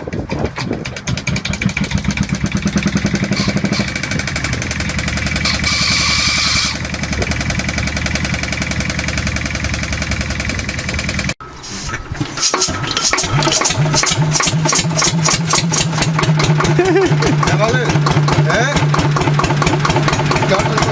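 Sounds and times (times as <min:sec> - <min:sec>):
small diesel engine running: 0:00.0 - 0:11.4, 0:12.7 - 0:20.9.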